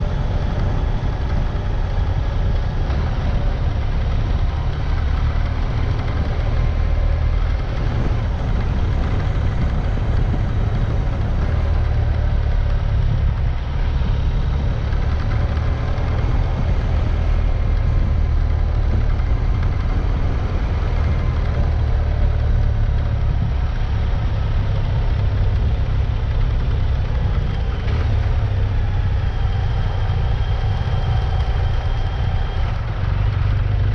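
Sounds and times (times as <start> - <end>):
road noise: 0.0 - 33.9
vehicle engine rumbling: 0.0 - 33.9.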